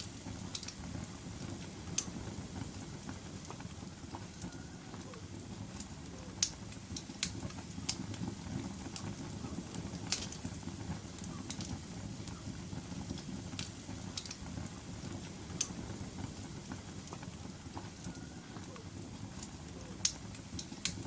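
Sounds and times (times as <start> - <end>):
fire crackling and popping: 0.0 - 21.0
fire flames rushing: 0.0 - 21.0.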